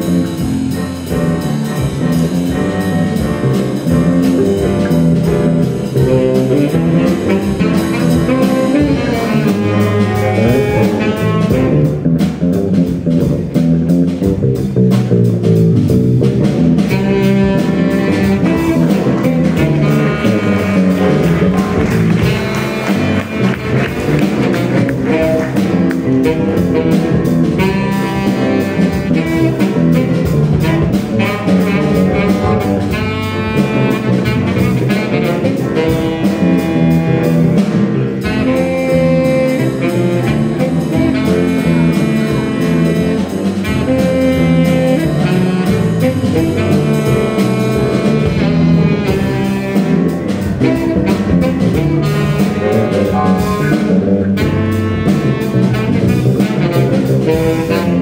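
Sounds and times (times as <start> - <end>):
electric bass guitar: 0.0 - 58.0
saxophone melody: 0.0 - 58.0.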